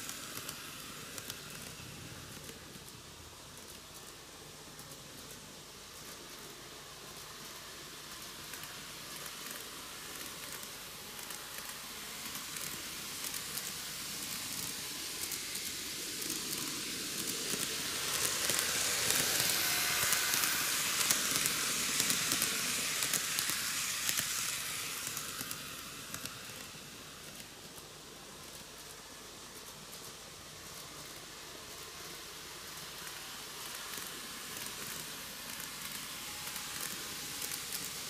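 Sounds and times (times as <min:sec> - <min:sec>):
model train rolling hiss: 0:00.0 - 0:38.0.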